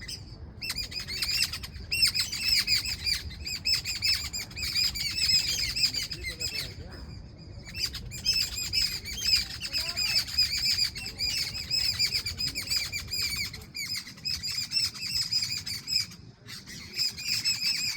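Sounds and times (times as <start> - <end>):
birds chirping in chorus: 0.0 - 17.9.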